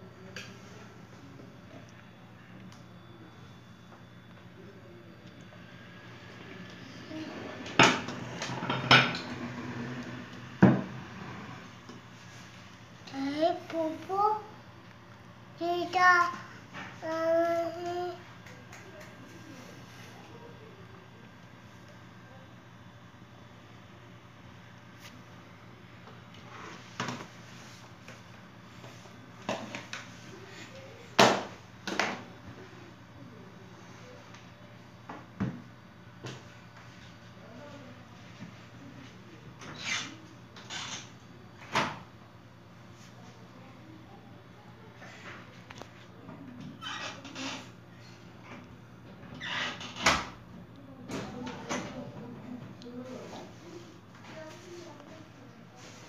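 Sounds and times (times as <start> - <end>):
low steady hum: 0.0 - 46.8.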